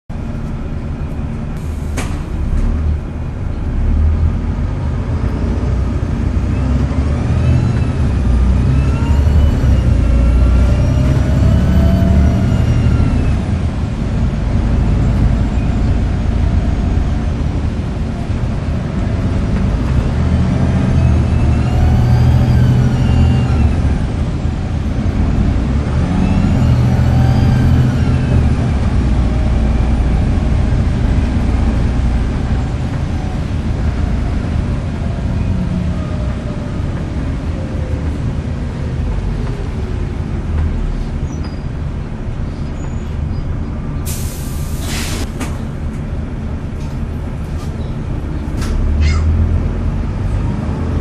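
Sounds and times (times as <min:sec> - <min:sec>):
bus diesel engine drone: 0:00.1 - 0:51.0.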